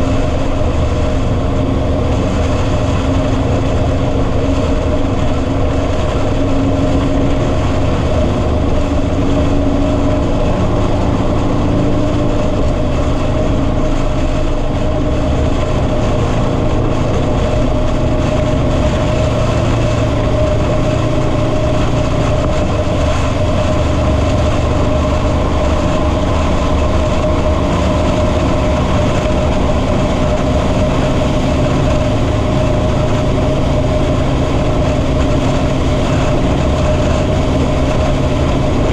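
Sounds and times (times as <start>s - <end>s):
motorcycle engine drone: 0.0s - 38.9s
wind and road noise: 0.0s - 38.9s.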